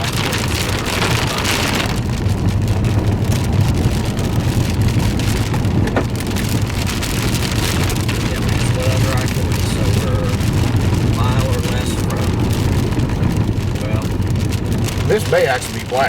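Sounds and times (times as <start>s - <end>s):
engine and road rumble: 0.0s - 16.0s
rain pattering on vehicle: 0.0s - 16.0s.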